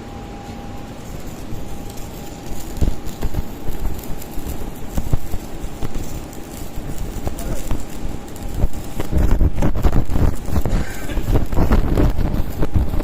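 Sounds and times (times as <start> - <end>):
arc welding crackling and popping: 0.0 - 13.0.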